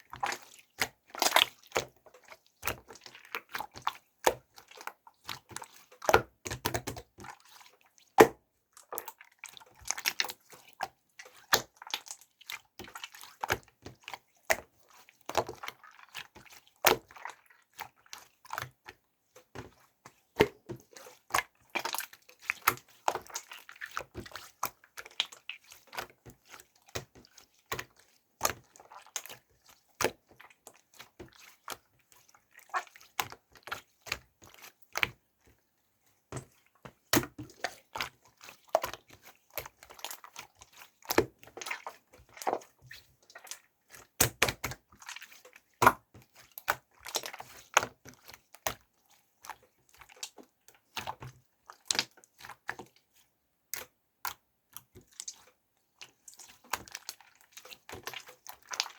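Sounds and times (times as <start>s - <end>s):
small wet clicks and taps: 0.0s - 58.9s.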